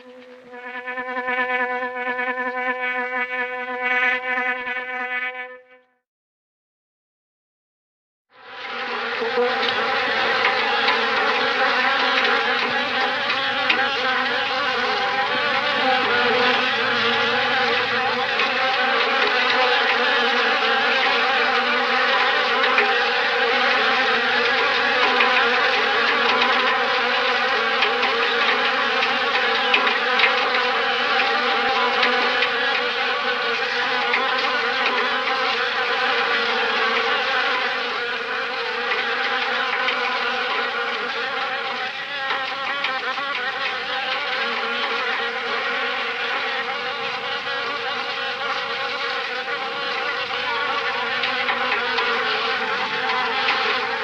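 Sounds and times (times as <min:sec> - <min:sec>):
fly buzzing: 0:00.0 - 0:05.8, 0:08.4 - 0:54.0.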